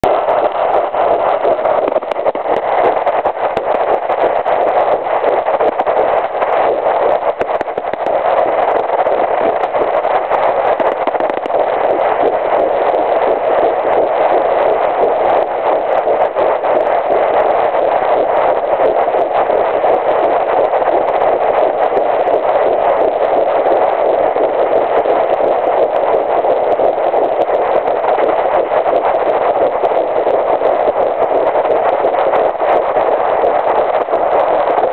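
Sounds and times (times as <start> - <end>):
fetal heartbeat on doppler: 0.0 - 34.9.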